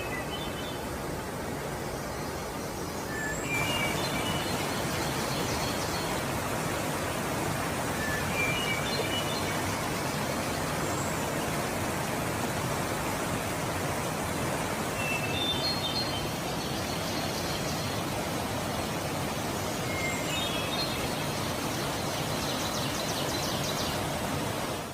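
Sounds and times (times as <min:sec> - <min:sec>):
small waterfall rushing: 0:00.0 - 0:24.9.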